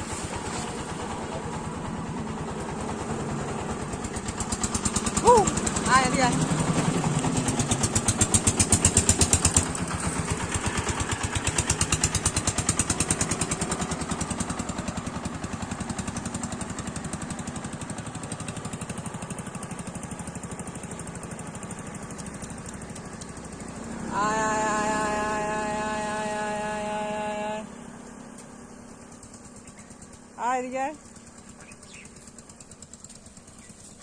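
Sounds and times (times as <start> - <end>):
small engine putting: 0.0 - 34.0.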